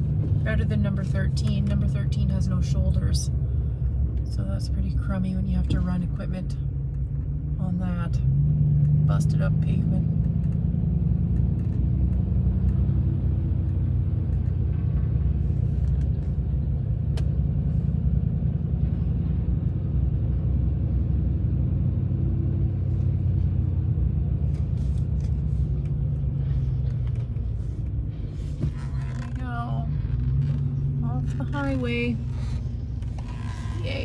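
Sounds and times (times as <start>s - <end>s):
vehicle engine and road drone: 0.0s - 34.0s.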